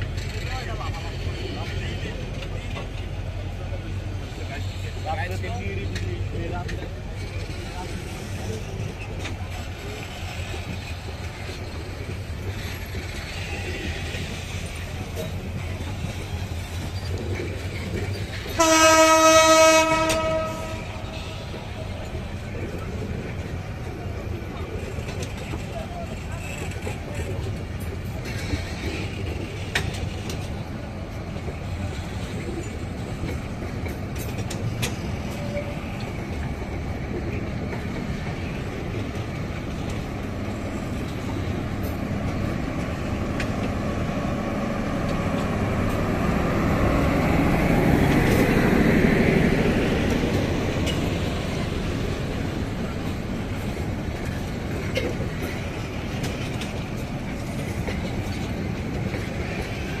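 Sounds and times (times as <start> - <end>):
train wheels rumbling on rails: 0.0 - 60.0.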